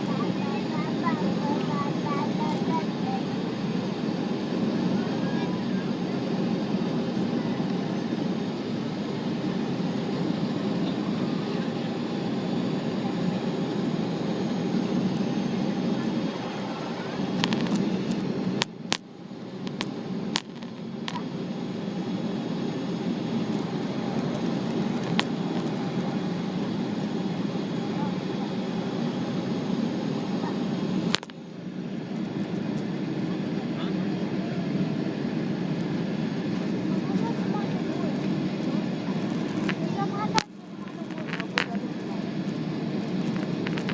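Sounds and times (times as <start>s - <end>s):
airplane cabin engine roar: 0.0s - 43.9s.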